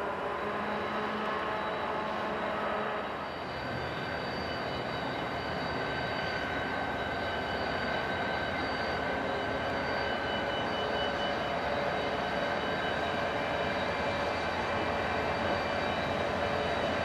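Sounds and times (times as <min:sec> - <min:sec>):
diesel locomotive engine drone: 0:00.0 - 0:17.0
high-pitched whines: 0:00.0 - 0:17.0.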